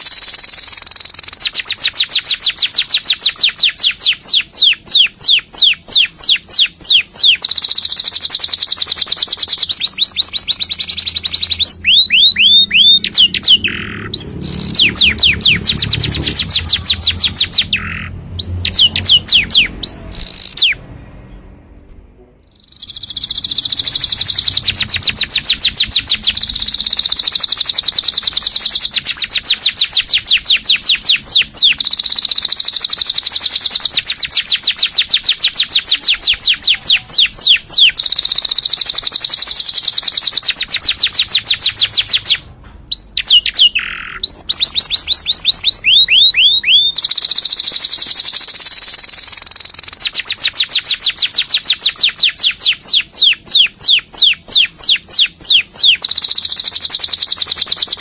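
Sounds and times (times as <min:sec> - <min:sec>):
canary singing trills: 0:00.0 - 0:21.6, 0:22.4 - 0:58.0.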